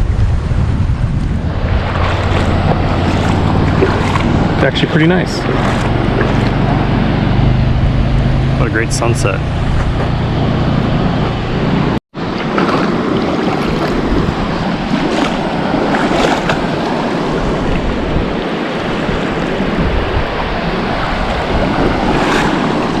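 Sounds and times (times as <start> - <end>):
wind on microphone: 0.0 - 23.0
lake waves lapping at shore: 0.9 - 7.5, 8.4 - 23.0.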